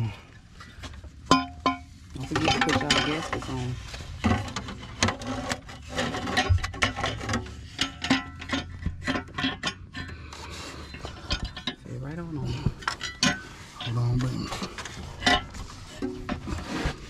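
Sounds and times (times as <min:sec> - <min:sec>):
metal knocks and scraping: 0:00.6 - 0:17.0.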